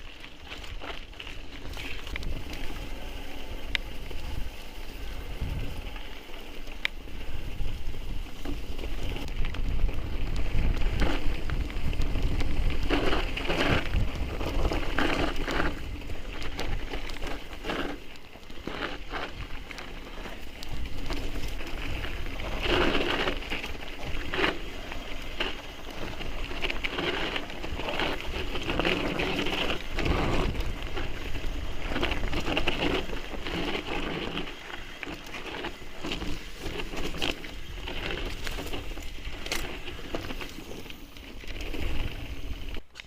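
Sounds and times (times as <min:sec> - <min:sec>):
bike clicks and rattles: 0:00.0 - 0:43.0
tyres crunching on loose stones: 0:00.0 - 0:43.0.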